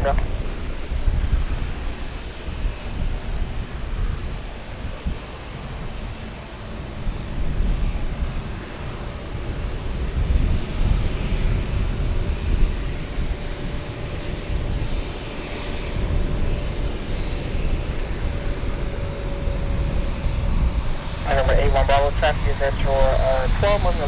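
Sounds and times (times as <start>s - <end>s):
faint engine whine: 0.0s - 24.0s
jet engines rumbling: 0.0s - 24.0s.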